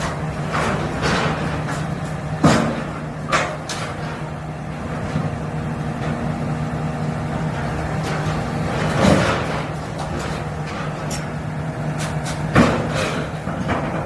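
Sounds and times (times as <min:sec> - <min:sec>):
diesel engine running: 0:00.0 - 0:14.0
hydraulic shear working steel: 0:00.0 - 0:14.0.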